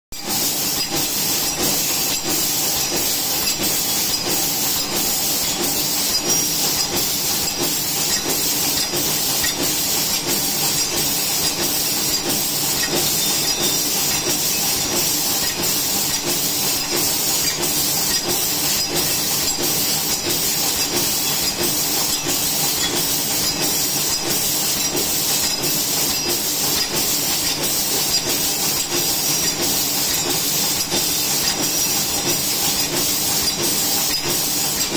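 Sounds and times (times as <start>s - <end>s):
machine clatter and hiss: 0.2s - 34.9s.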